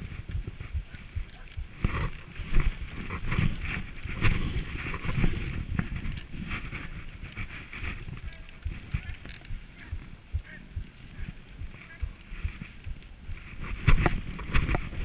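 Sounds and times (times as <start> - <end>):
sled knocks and rattles: 0.0 - 15.0
sled runners hissing on snow: 0.0 - 15.0
wind buffeting microphone: 0.0 - 15.0.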